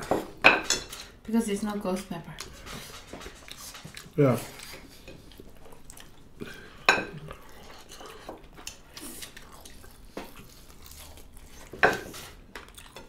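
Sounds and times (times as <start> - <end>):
chewing and mouth noises: 2.4 - 13.0.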